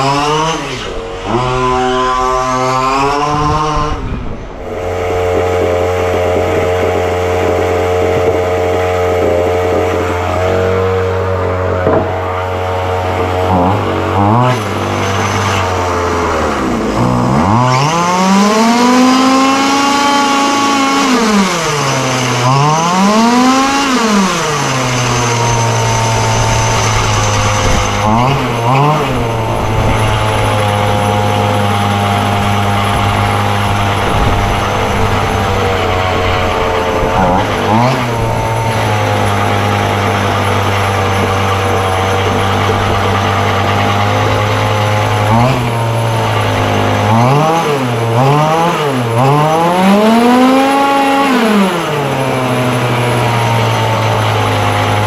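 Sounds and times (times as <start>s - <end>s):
small two-stroke engine revving: 0.0s - 55.0s.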